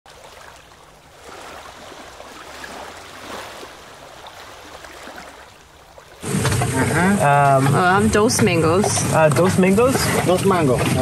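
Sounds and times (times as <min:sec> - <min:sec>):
moving water: 0:00.1 - 0:11.0
small waves lapping: 0:00.1 - 0:11.0.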